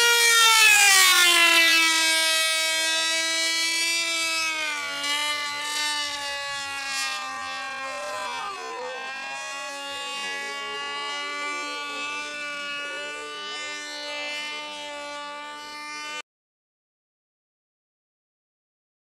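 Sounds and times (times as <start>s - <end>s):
model aircraft engine whining: 0.0s - 16.2s.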